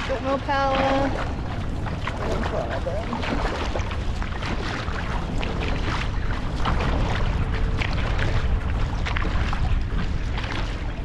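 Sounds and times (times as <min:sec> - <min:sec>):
paddles splashing water: 0:00.0 - 0:11.0
wind rumble on microphone: 0:00.0 - 0:11.0.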